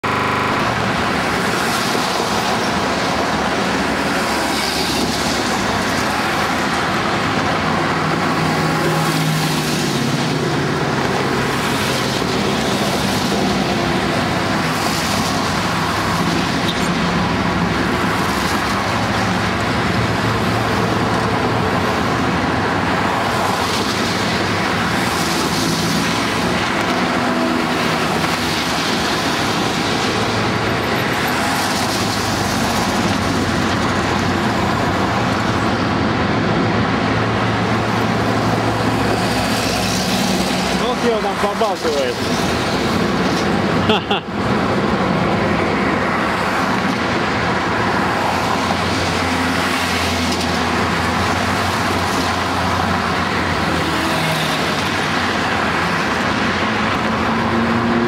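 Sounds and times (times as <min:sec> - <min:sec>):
motorway traffic: 0:00.0 - 0:58.0
truck engine hum: 0:00.0 - 0:58.0.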